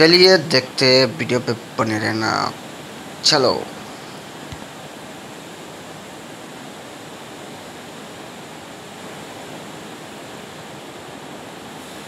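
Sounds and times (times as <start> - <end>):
machinery steady rushing noise: 0.0 - 12.0.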